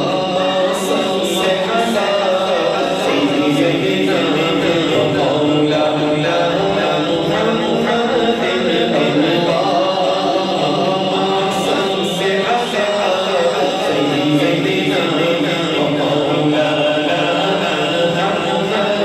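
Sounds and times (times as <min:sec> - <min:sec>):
man singing a chant: 0:00.0 - 0:19.0.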